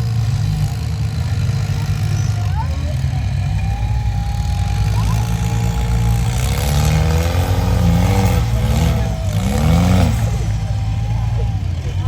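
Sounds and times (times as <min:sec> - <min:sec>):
vehicle engine rumble: 0:00.0 - 0:12.0
indistinct voice: 0:00.1 - 0:12.0.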